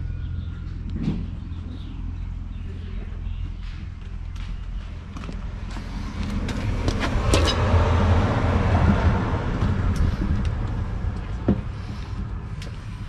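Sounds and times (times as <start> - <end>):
low engine hum: 0.0 - 13.0
motor vehicle passing: 1.0 - 13.0.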